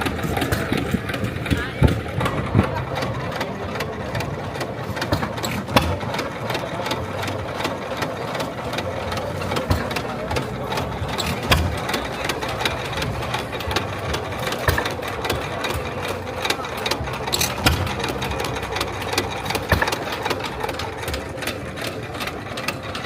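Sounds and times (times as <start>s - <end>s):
engine running with hum: 0.0s - 23.0s
sharp clicks and knocks: 0.0s - 23.0s.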